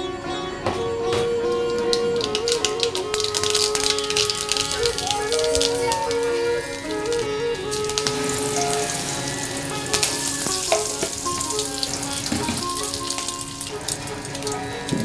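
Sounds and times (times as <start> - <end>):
background music: 0.0 - 15.0
food sizzling in hot oil: 2.2 - 15.0.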